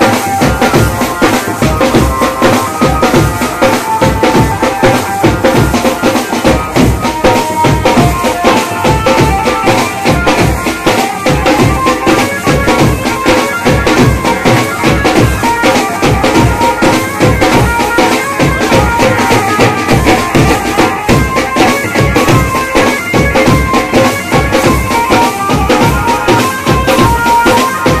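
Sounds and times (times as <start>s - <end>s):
fast sharp percussion strikes: 0.0s - 28.0s
reedy wind instrument melody: 0.0s - 28.0s
steady drum beat: 0.0s - 28.0s.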